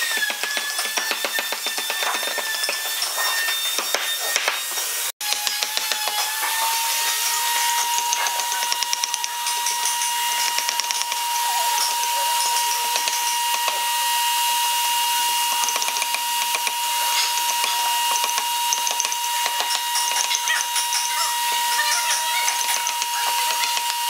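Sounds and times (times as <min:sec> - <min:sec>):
mallet tapping wood chisel: 0:00.2 - 0:02.9, 0:05.2 - 0:13.9, 0:15.4 - 0:24.0.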